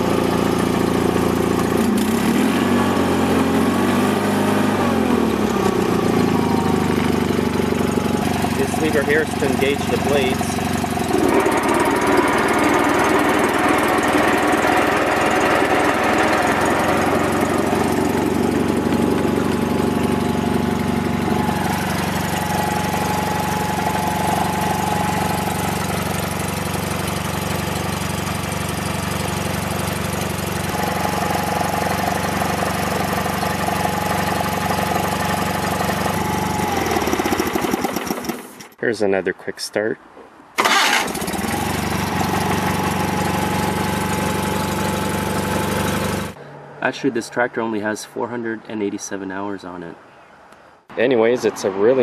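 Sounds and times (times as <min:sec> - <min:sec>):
lawn tractor engine running: 0:00.0 - 0:38.8, 0:40.6 - 0:46.6.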